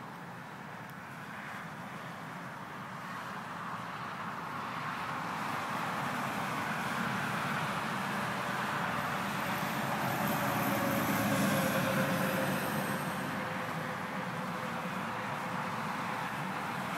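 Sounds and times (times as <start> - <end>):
car passing on road: 1.1 - 16.9.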